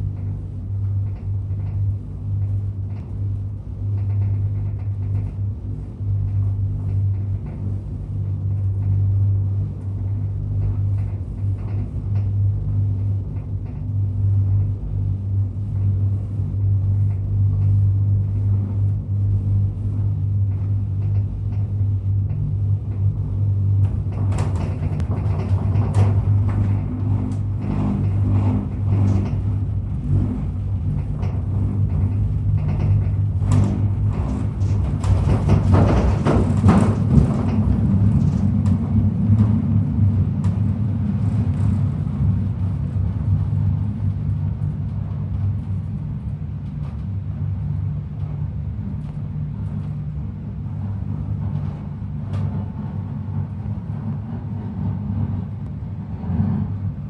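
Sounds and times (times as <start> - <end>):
faint ticks and rattles: 0.0 - 50.0
low machine drone: 0.0 - 57.0.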